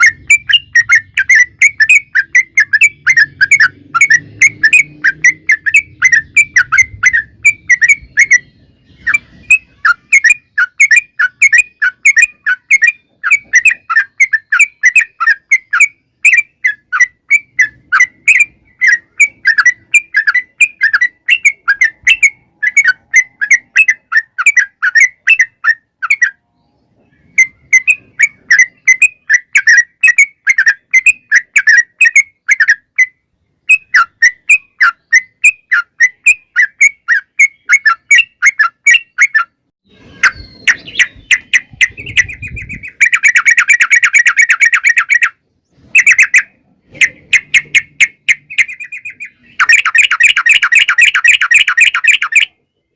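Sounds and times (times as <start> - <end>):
bird calling in sharp chirps: 0.0 - 52.9.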